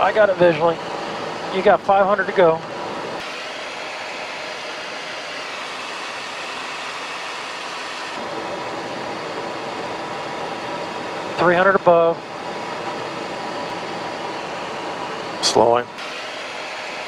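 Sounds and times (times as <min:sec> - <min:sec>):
turbofan engine noise: 0:00.0 - 0:17.0.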